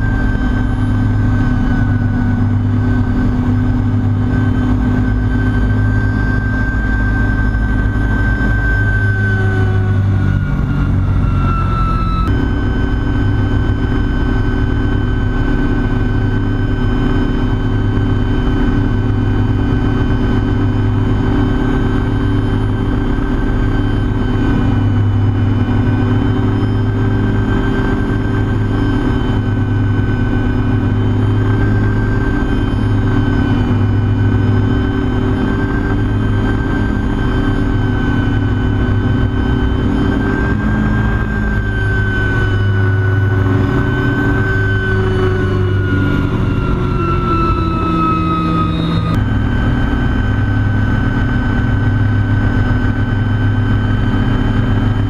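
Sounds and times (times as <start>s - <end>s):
helicopter engine high whine: 0.0s - 55.0s
helicopter rotor drone: 0.0s - 55.0s.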